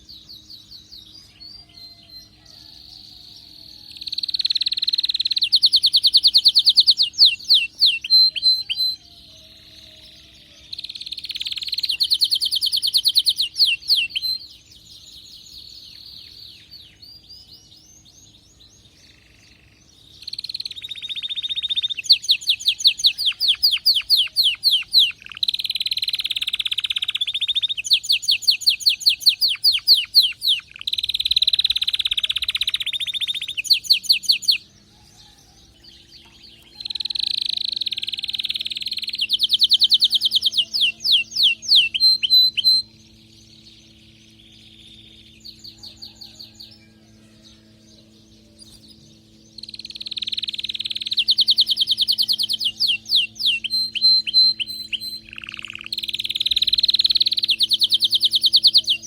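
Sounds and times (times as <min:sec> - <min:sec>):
canary singing fast trills: 0:00.0 - 0:47.0, 0:47.8 - 0:59.0.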